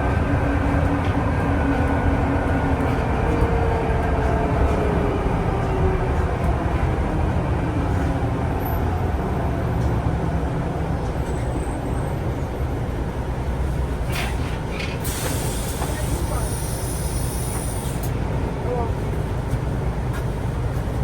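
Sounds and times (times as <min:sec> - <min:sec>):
vehicle rumble in motion: 0:00.0 - 0:21.0.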